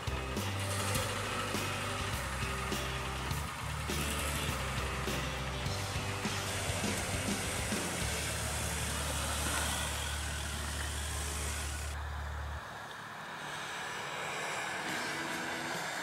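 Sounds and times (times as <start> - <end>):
distant engine running: 0.0 - 16.0
truck engine droning: 0.0 - 16.0.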